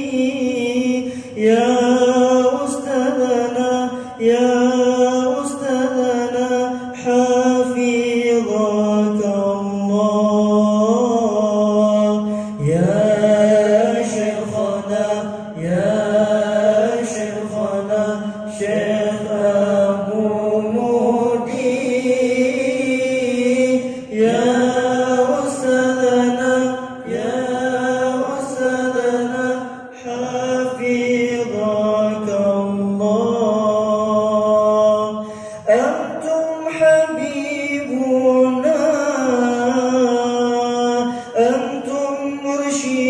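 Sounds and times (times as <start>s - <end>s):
person chanting religious poem: 0.0s - 43.0s.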